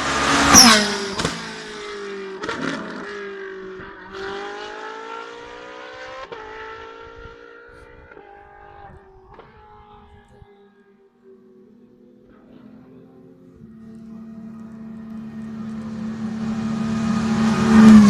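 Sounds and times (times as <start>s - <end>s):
race car engine: 0.0s - 10.4s, 11.5s - 18.0s.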